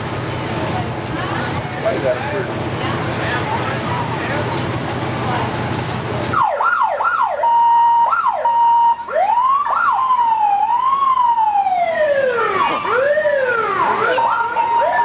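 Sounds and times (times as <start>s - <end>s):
fire engine sirens wailing: 0.0s - 15.0s.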